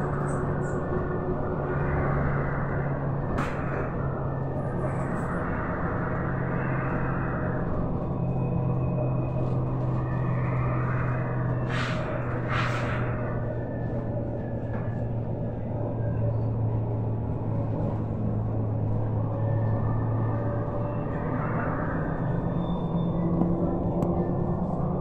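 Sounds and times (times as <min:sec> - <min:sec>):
electric bus hum: 0:00.0 - 0:25.0
road and tyre noise: 0:00.0 - 0:25.0.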